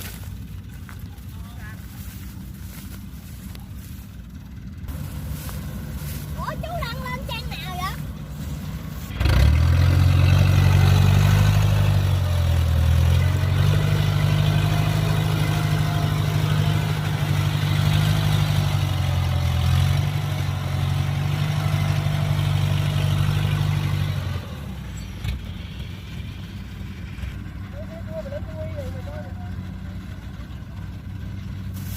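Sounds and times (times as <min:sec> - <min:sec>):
combine harvester engine running: 0:00.0 - 0:31.9.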